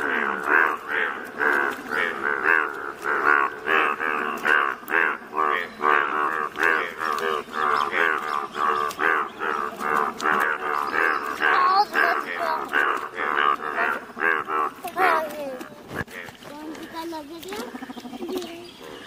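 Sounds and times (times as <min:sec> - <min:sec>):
frogs croaking: 0:00.0 - 0:19.0.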